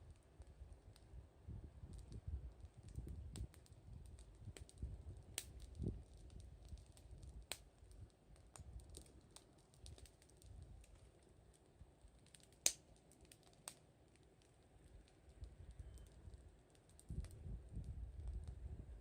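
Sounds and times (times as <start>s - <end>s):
campfire crackling: 0.0s - 19.0s
fire popping: 0.0s - 19.0s.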